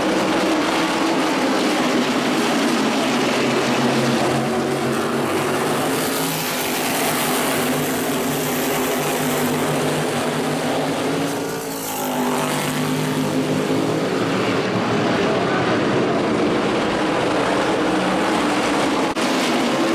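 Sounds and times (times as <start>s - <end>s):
race car engines: 0.0s - 19.9s.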